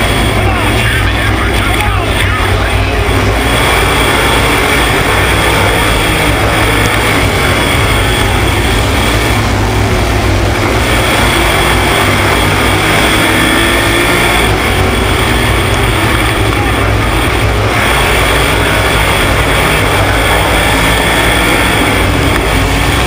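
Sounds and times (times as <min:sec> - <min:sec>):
race car engines at speed: 0:00.0 - 0:23.0.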